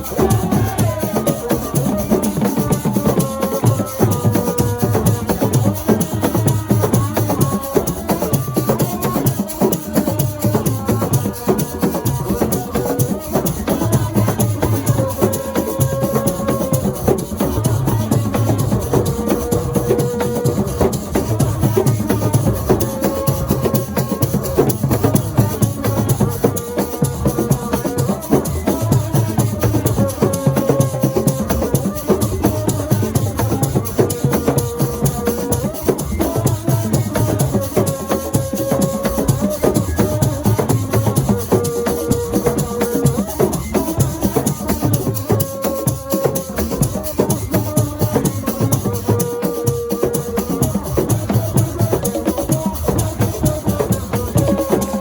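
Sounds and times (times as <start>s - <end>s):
drums: 0.0s - 55.0s
shaker: 0.0s - 55.0s.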